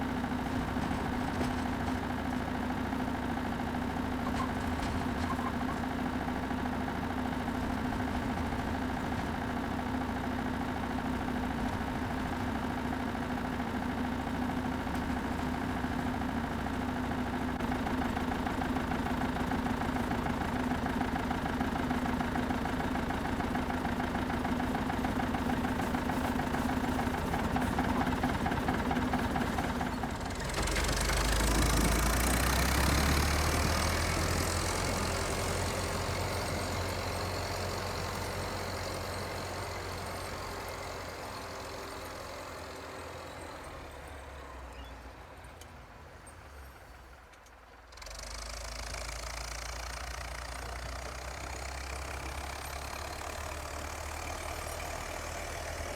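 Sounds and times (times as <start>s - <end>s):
tractor engine running: 0.0s - 44.7s, 47.1s - 55.9s.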